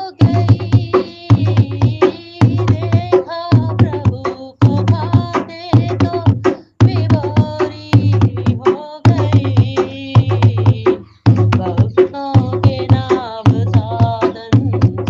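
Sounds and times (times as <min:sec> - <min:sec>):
person singing devotional song: 0:00.0 - 0:15.0
steady drum beats: 0:00.0 - 0:15.0.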